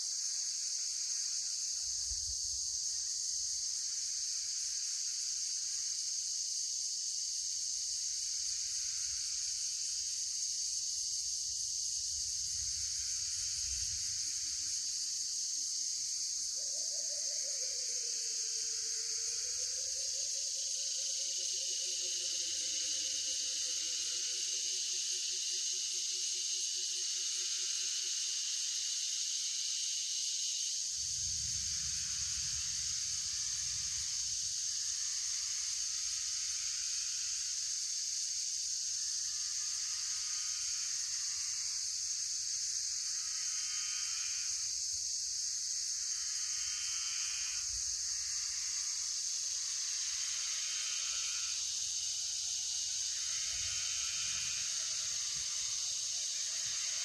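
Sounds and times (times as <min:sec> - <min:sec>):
buzzy insect call: 0:00.0 - 0:57.0
high-pitched insect chorus: 0:00.0 - 0:57.0.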